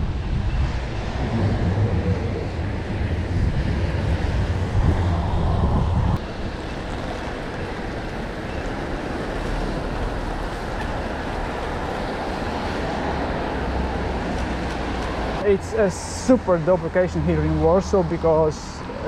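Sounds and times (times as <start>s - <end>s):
storm wind: 0.0s - 19.0s
street traffic: 0.0s - 19.0s.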